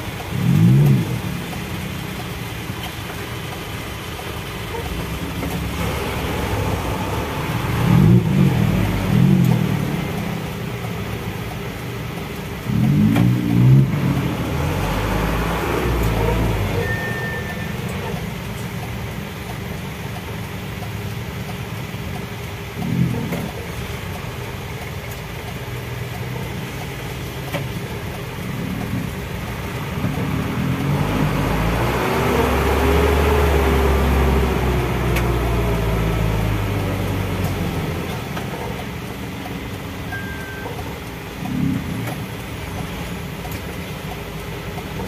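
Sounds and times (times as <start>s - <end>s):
truck engine rumbling: 0.0s - 45.0s.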